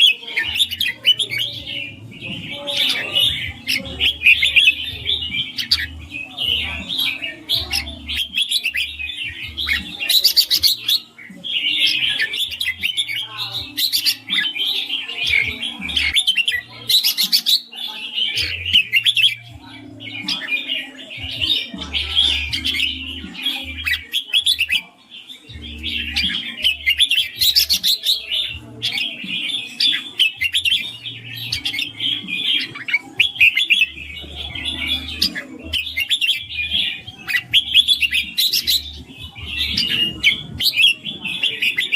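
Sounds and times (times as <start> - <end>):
bird chirping and warbling: 0.0 - 41.9.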